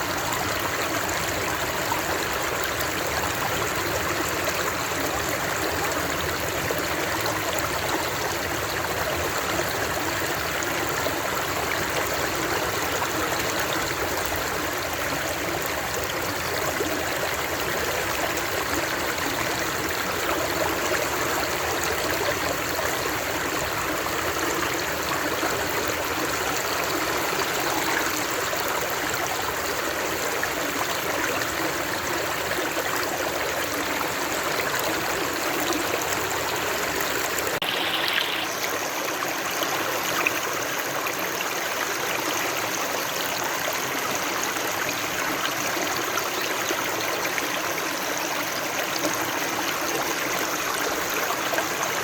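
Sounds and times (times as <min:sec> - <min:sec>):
stream flowing: 0:00.0 - 0:52.0.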